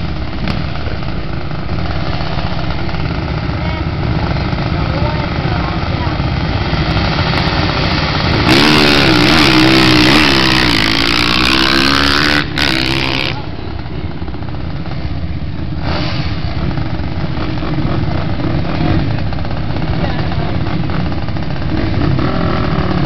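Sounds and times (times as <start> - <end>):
dirt bike engines at full throttle: 0.0 - 23.0
dull steady engine noise: 0.0 - 23.0.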